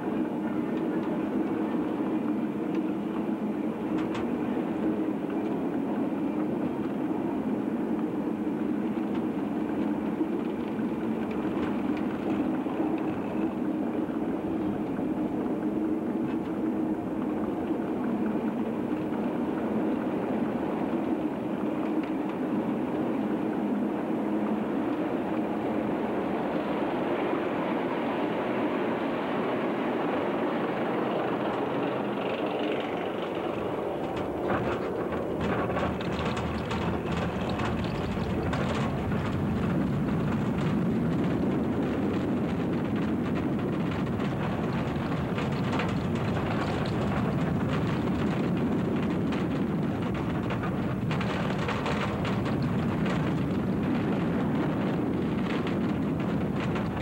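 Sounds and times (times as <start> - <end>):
roller coaster rumbling on track: 0.0 - 57.0.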